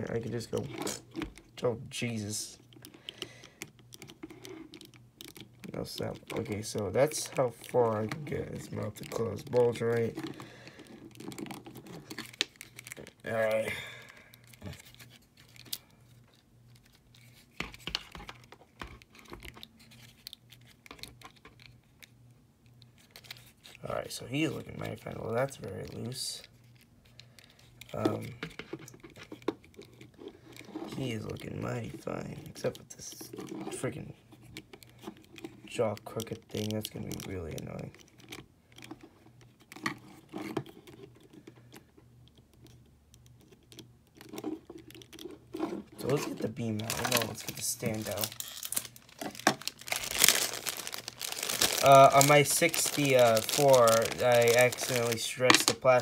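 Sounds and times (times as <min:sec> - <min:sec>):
fingers handling vinyl figure: 0:00.0 - 0:56.0.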